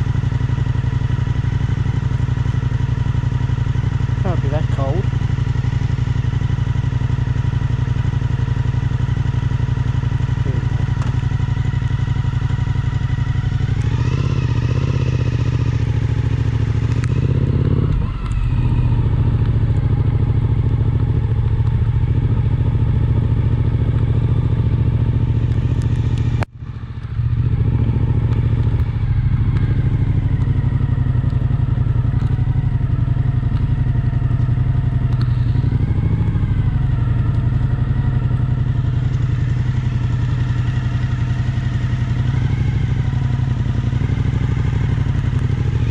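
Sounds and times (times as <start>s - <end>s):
motorcycle engine running: 0.0s - 45.9s
road noise: 0.0s - 45.9s.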